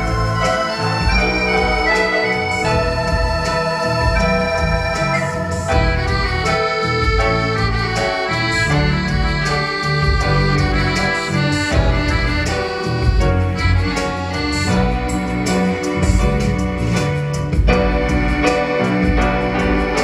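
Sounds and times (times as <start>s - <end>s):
accordion: 0.0s - 20.0s
bass line and beat: 0.0s - 20.0s
electronic keyboard: 0.0s - 20.0s.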